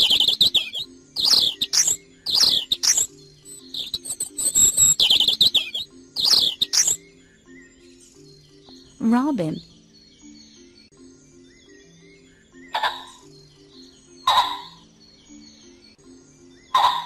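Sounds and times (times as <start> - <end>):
quiet background music: 0.0 - 17.0
robin singing: 0.0 - 17.0.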